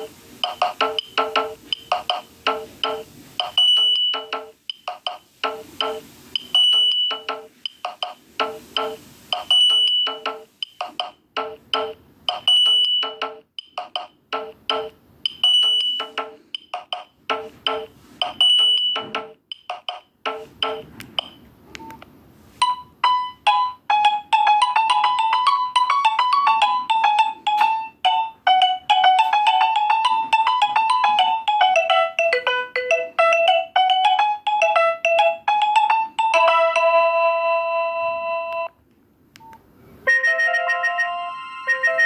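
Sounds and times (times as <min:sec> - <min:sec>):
polyphonic ringtone melody: 0:00.0 - 0:20.9, 0:22.6 - 0:38.7, 0:40.1 - 0:42.0.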